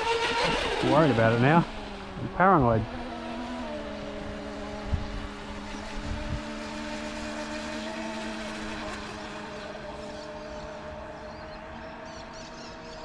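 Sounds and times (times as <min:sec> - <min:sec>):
rc boat electric motors whining: 0:00.0 - 0:13.0.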